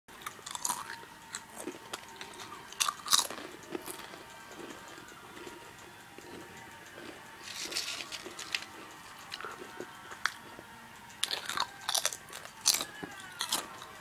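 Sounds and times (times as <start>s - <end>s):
person chewing crunchy food: 0.2s - 5.5s, 6.2s - 10.6s, 11.2s - 13.8s.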